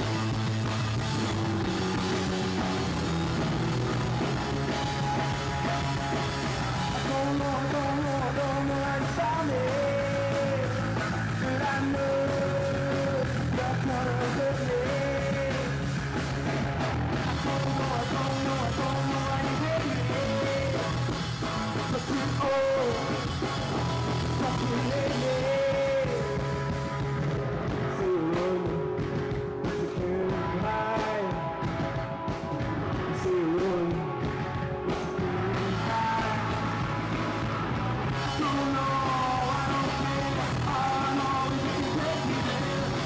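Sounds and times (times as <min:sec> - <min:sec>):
bass guitar: 0:00.0 - 0:43.0
drums: 0:00.0 - 0:43.0
electric guitar: 0:00.0 - 0:43.0
man singing: 0:03.2 - 0:16.3, 0:17.2 - 0:32.2, 0:32.9 - 0:43.0.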